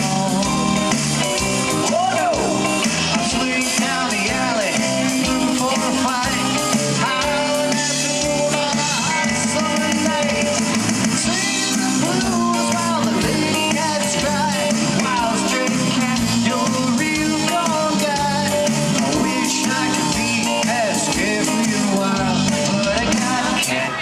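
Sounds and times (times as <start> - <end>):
drum kit: 0.0 - 23.9
electric bass: 0.0 - 24.0
electric guitars: 0.0 - 24.0.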